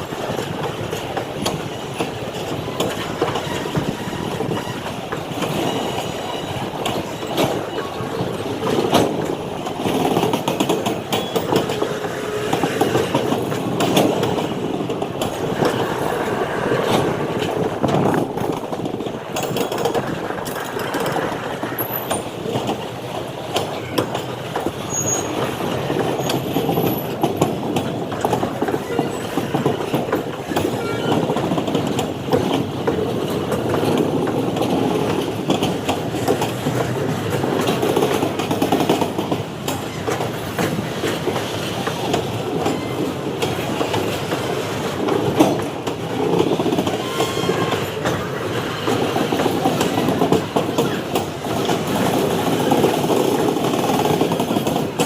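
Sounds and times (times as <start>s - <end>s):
wheels clicking over rail joints: 0.0s - 55.0s.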